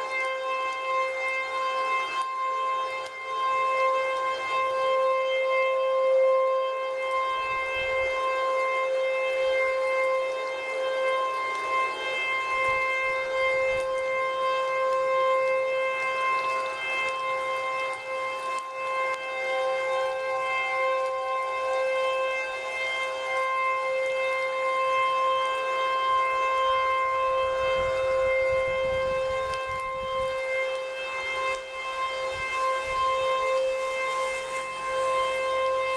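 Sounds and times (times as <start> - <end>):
civil defense warning siren: 0.0 - 35.9.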